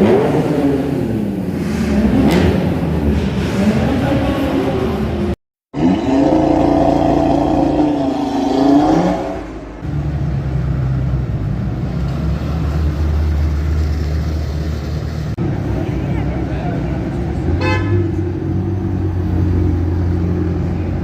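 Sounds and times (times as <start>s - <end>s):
sports car engines revving: 0.0s - 21.0s.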